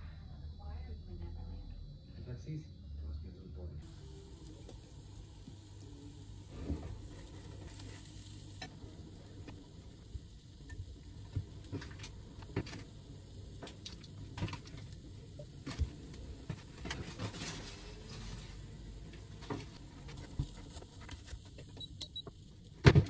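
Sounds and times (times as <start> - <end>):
muffins turned in frying pan: 3.8 - 23.0.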